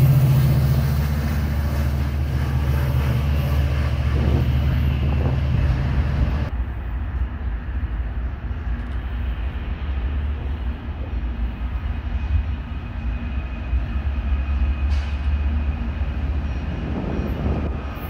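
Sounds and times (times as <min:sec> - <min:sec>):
diesel locomotive engines rumbling: 0:00.0 - 0:18.0.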